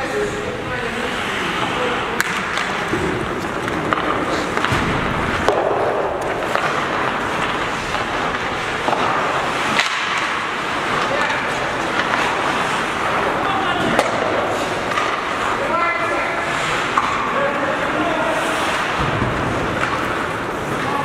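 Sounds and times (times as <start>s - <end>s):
skate blades scraping ice: 0.2s - 21.0s
clacks of sticks and puck: 1.1s - 21.0s.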